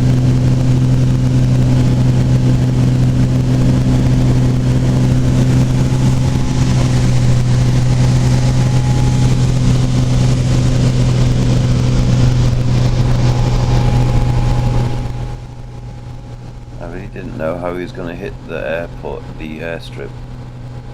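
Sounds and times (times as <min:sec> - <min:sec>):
small aircraft engine drone: 0:00.0 - 0:20.9.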